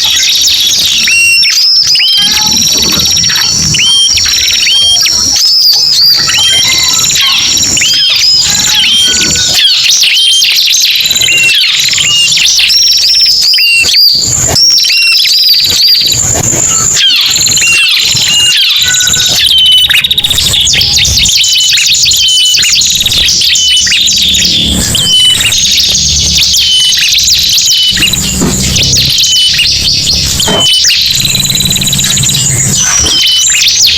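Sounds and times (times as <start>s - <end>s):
songbirds chirping rapidly: 0.0s - 33.9s.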